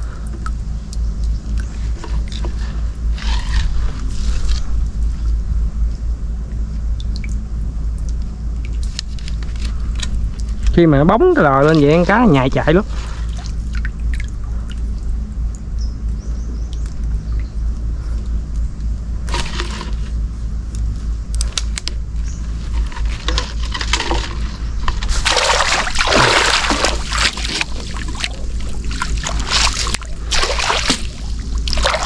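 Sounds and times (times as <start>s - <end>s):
water splashing and sloshing: 0.0s - 15.8s, 19.2s - 32.0s
steady low rumble: 0.0s - 32.0s.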